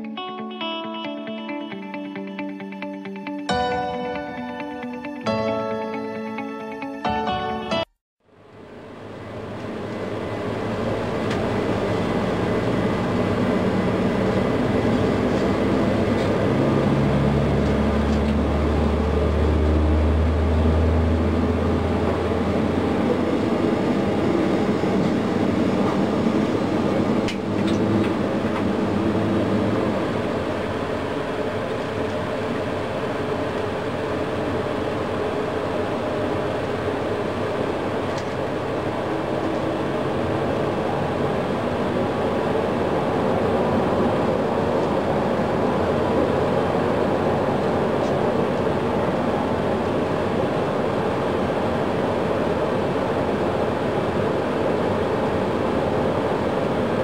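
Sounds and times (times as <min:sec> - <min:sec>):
jet engine starter rumbling hum: 0:09.0 - 0:57.0.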